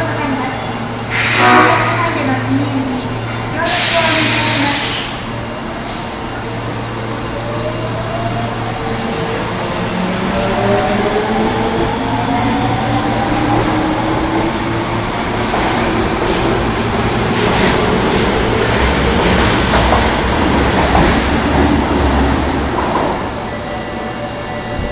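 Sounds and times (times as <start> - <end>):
train wheels rumbling on rail: 0.0 - 24.9.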